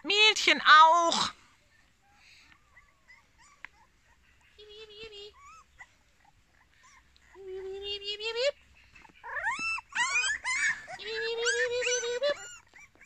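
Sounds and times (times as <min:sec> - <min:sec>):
puppies whimpering: 0:01.6 - 0:04.6, 0:05.3 - 0:13.0.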